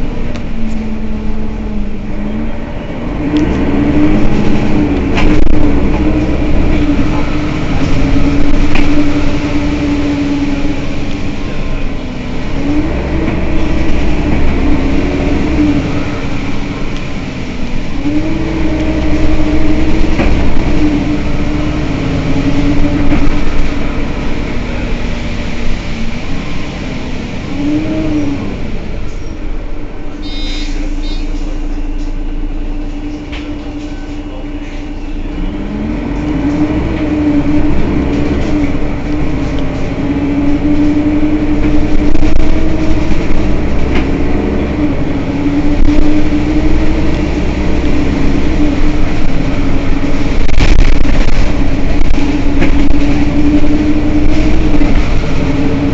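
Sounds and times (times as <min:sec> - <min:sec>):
bus engine idling: 0:00.0 - 0:55.9.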